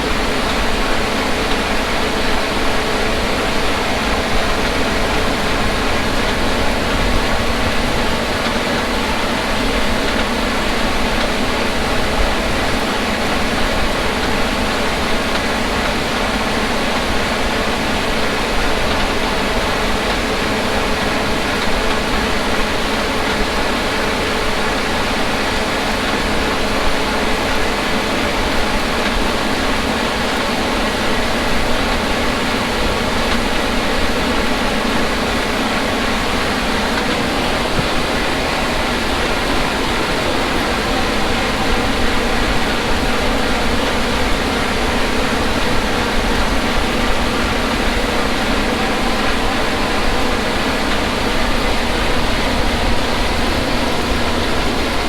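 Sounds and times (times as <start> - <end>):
harvest machinery engine drone: 0.0 - 55.0.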